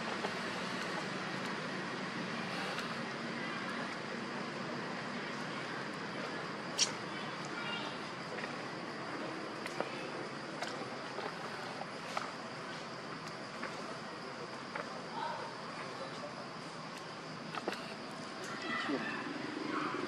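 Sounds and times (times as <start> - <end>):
insect drone: 0.0 - 20.0.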